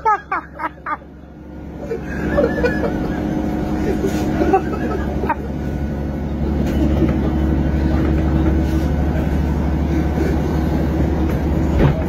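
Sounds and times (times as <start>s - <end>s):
train carriage rumble and hum: 0.0s - 12.0s.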